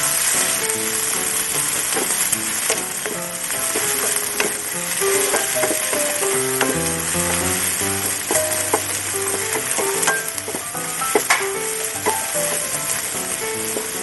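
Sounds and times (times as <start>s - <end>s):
food sizzling in a pan: 0.0s - 14.0s
light plucked background music: 0.0s - 14.0s
stirring clicks: 0.1s - 14.0s.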